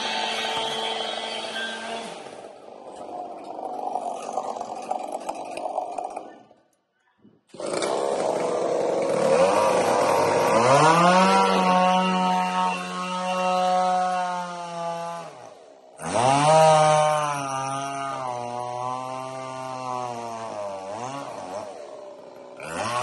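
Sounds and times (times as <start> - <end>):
chainsaw cutting into log: 0.0 - 6.4, 7.5 - 23.0.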